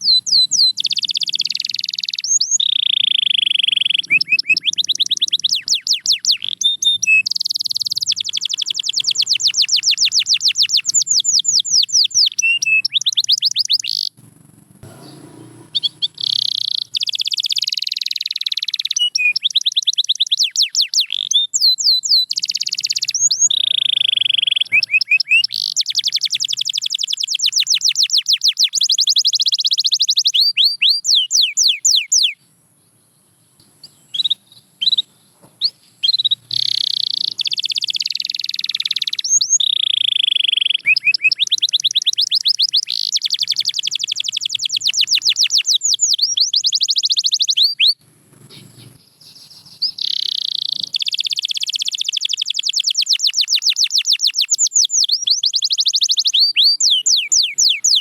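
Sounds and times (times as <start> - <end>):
canary singing in rapid trills: 0.0 - 32.5, 33.8 - 58.0.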